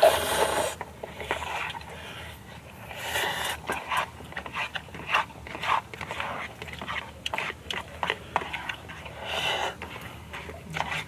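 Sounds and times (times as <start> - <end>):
person chewing noodles: 0.0 - 11.0.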